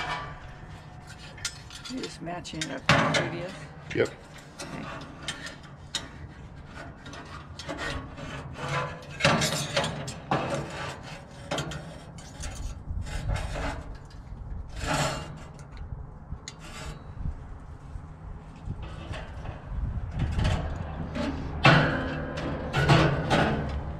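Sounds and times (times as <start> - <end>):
metal grill parts scraping: 0.0 - 23.9.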